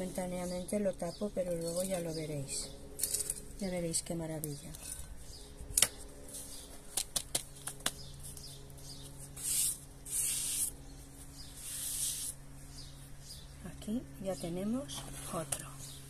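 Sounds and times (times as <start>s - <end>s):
gritty scraping of potting mix: 0.0s - 13.0s, 14.7s - 15.8s.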